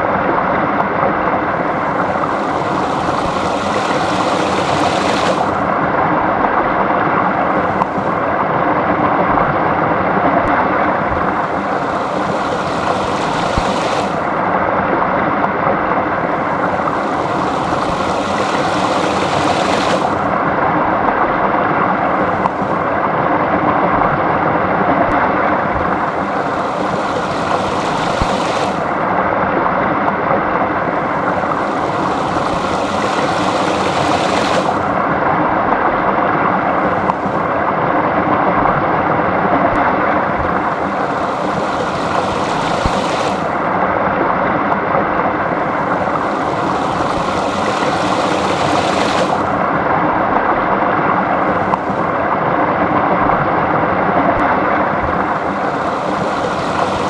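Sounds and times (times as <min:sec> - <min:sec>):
stream burbling: 0:00.0 - 0:57.0.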